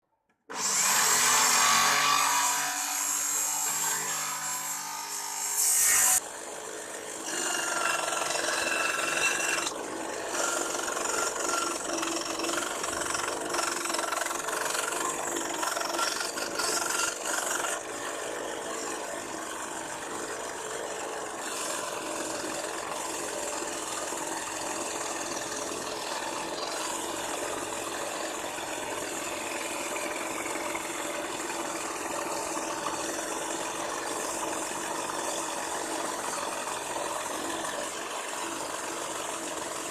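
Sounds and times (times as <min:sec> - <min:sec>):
band saw humming and rattling: 0:00.5 - 0:39.9.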